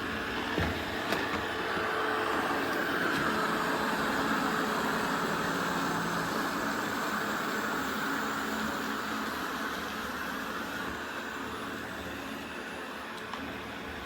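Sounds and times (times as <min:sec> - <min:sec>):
robot vacuum suction fan whirring: 0:00.0 - 0:14.0.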